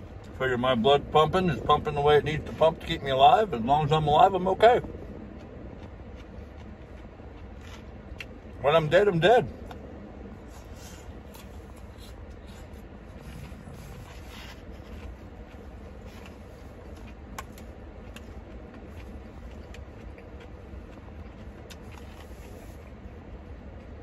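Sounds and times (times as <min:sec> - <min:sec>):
low car cabin rumble: 0:00.0 - 0:24.0
chewing lettuce: 0:01.6 - 0:08.6, 0:09.5 - 0:24.0.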